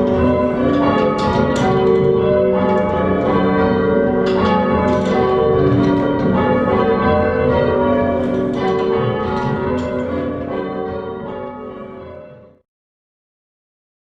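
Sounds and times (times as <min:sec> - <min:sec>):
church bells ringing: 0:00.0 - 0:12.7.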